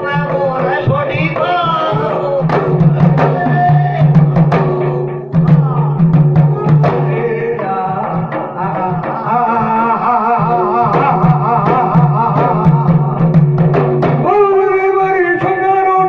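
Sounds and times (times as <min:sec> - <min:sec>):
men singing folk ballad: 0:00.0 - 0:13.3
clay pot percussion: 0:00.0 - 0:15.6.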